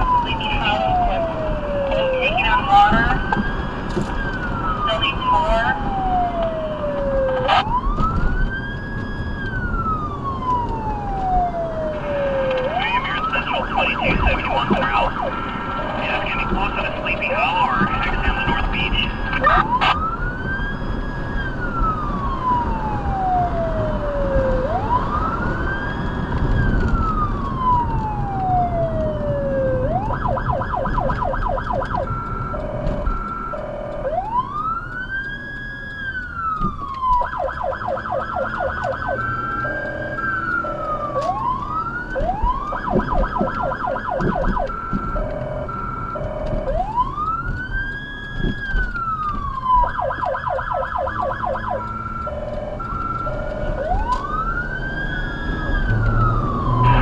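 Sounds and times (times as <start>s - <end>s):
car road noise: 0.0s - 57.0s
electronic siren wail and yelp: 0.0s - 57.0s
high-low siren tone: 0.0s - 57.0s.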